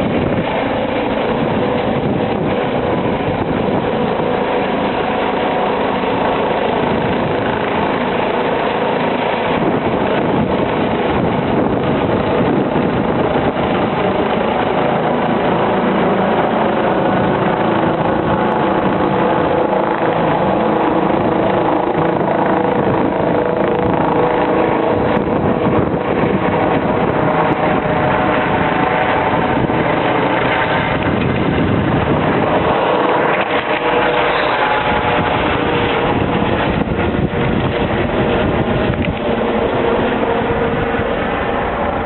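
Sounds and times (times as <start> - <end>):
helicopter engine and rotor: 0.0 - 42.0.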